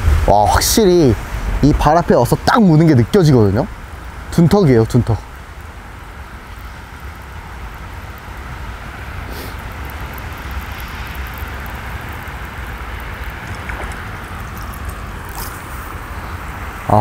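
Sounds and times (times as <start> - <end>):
rain falling on water: 0.0 - 17.0
wind rumble on microphone: 0.0 - 17.0.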